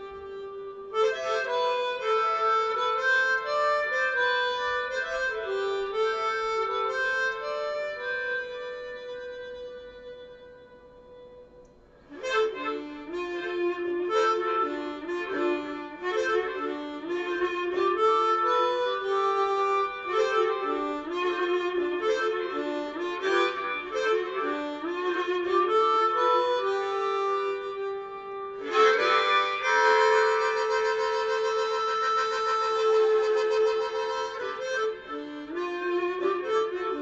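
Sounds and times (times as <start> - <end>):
harmonica playing blues: 0.0 - 37.0.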